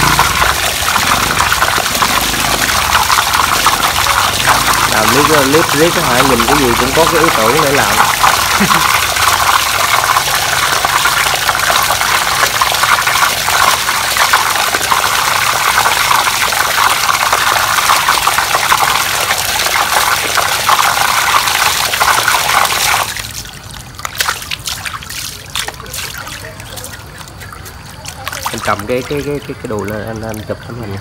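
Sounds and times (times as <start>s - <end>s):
water gushing into plastic basin: 0.0s - 31.0s.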